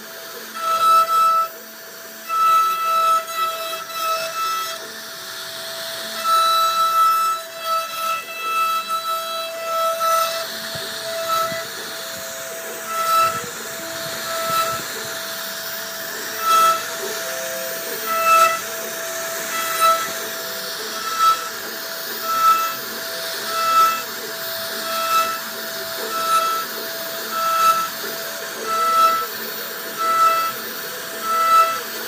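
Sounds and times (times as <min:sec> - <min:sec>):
router spindle whining: 0:00.0 - 0:32.0
rushing noise of wood cutting: 0:00.0 - 0:32.0.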